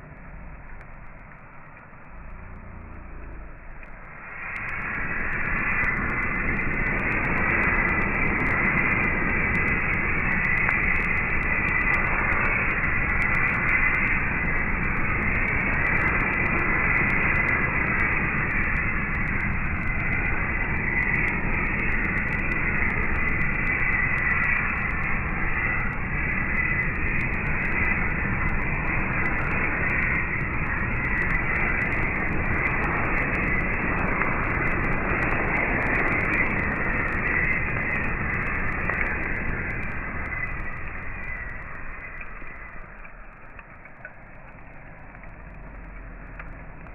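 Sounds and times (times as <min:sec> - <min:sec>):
burning wood crackling: 0:00.0 - 0:46.9.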